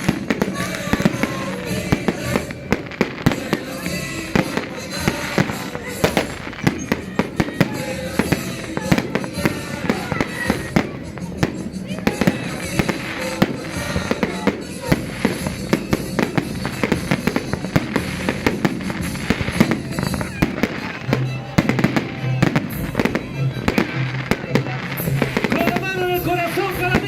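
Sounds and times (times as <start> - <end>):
fireworks and firecrackers banging: 0.0 - 27.0
music playing: 0.0 - 27.0.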